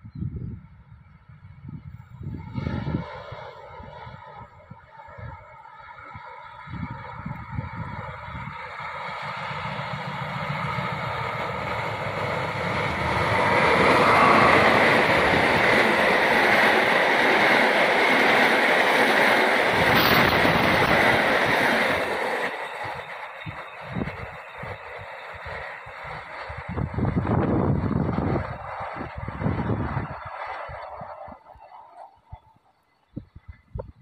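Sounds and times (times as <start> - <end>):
diesel locomotive rumble: 0.3 - 34.0
train wheels rushing on rails: 2.1 - 33.5.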